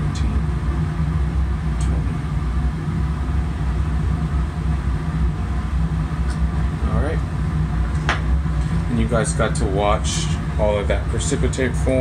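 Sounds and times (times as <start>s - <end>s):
low machinery rumble: 0.0s - 12.0s.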